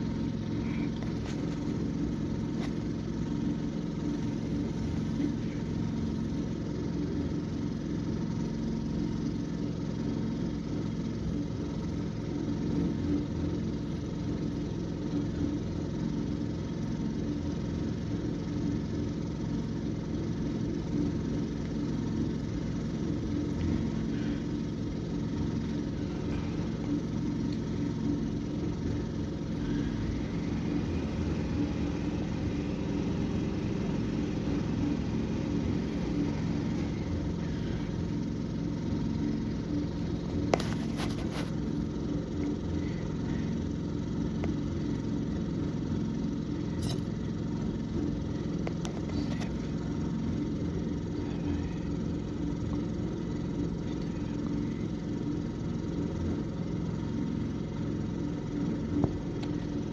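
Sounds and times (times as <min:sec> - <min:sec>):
car engine running inside cabin: 0:00.0 - 0:59.9.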